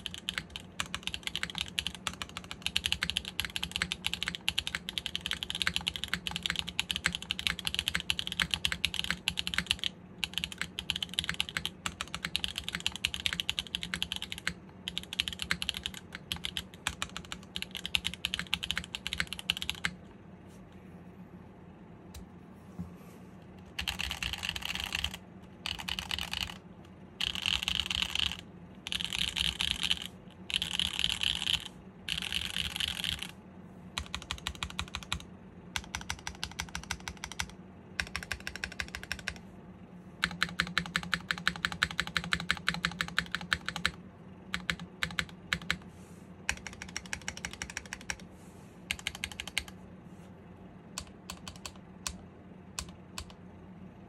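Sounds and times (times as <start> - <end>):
mechanical keyboard typing: 0.0 - 20.0, 23.6 - 26.6, 27.2 - 33.4, 34.0 - 39.4, 40.2 - 45.8, 46.5 - 48.3, 48.9 - 49.8, 51.0 - 52.2, 52.8 - 53.4.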